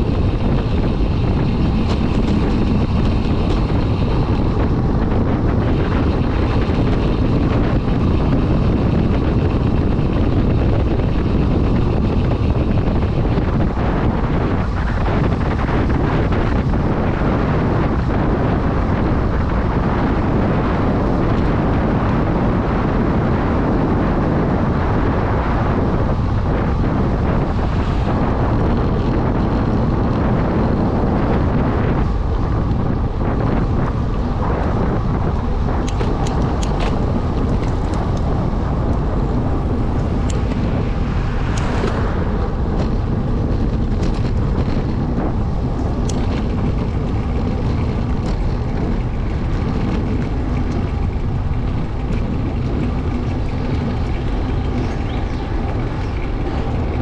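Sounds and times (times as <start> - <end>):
bicycle tyre noise: 0.0 - 57.0
wind rushing on microphone: 0.0 - 57.0.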